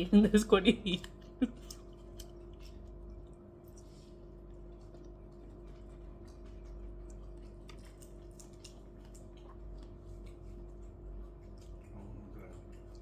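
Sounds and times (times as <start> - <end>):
steady low hum: 0.0 - 13.0
chewing: 1.0 - 13.0.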